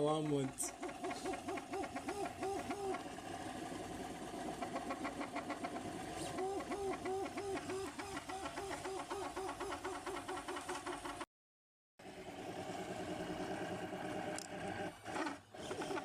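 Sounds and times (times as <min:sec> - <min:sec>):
stepper motors whining: 0:00.0 - 0:10.1, 0:12.0 - 0:16.0.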